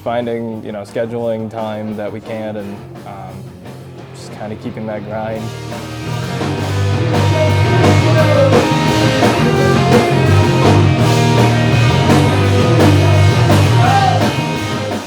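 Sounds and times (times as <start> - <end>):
bass guitar: 0.0 - 15.0
drum kit: 0.0 - 15.0
electric guitar: 1.5 - 15.0.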